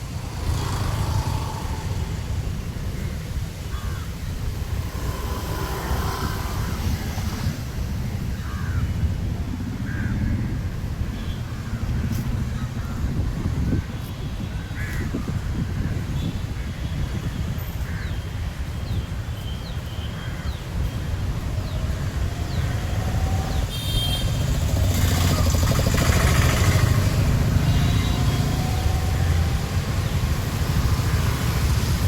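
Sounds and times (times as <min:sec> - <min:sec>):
vehicle engine rumbling: 0:00.0 - 0:19.4, 0:20.3 - 0:32.0.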